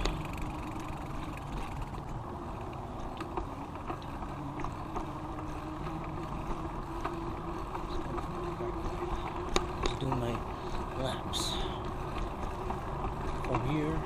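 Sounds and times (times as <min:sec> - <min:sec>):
bike clicks and rattles: 0:00.0 - 0:14.0
tyres rumbling on pavement: 0:00.0 - 0:14.0.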